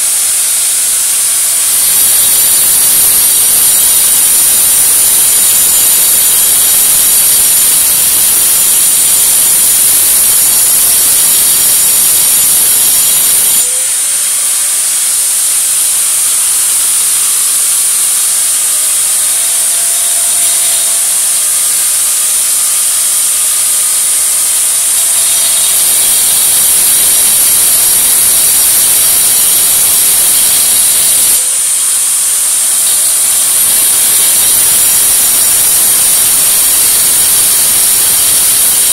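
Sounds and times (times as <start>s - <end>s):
motor whine: 0.0s - 38.9s
power tool grinding masonry: 0.0s - 38.9s.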